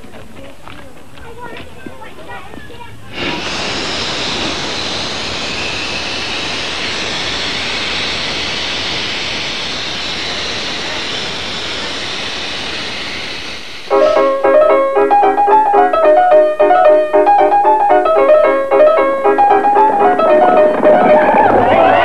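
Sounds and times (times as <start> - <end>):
steam hissing from locomotive: 2.8 - 16.2, 17.5 - 22.0.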